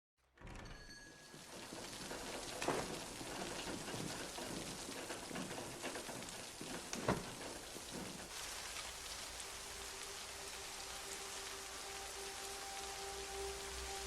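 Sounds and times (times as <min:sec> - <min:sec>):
steady rain falling: 0:01.0 - 0:14.0.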